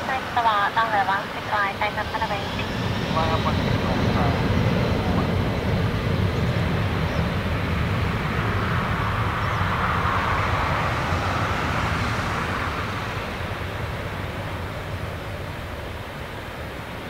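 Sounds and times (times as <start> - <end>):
jet engines rumbling and hissing: 0.0 - 17.0.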